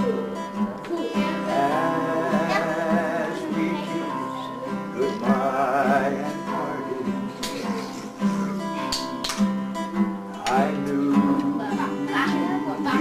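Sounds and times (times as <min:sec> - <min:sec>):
acoustic guitar country tune: 0:00.0 - 0:13.0.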